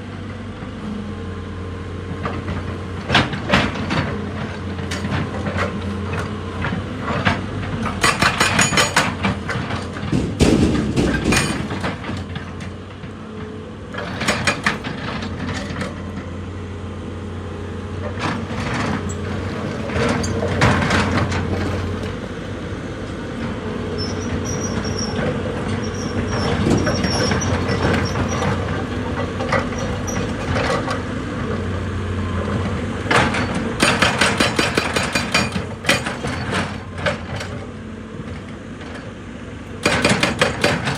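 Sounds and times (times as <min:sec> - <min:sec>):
excavator engine running: 0:00.0 - 0:40.9.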